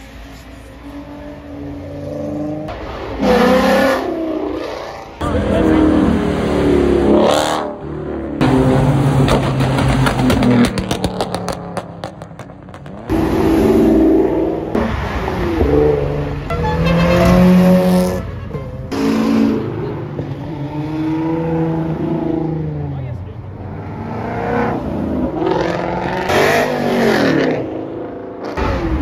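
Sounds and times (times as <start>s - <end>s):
cars accelerating hard: 0.9s - 18.2s, 18.9s - 29.0s.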